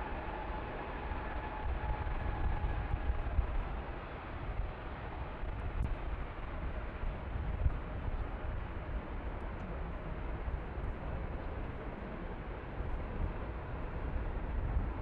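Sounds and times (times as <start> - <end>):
jet engines at takeoff: 0.0 - 15.0.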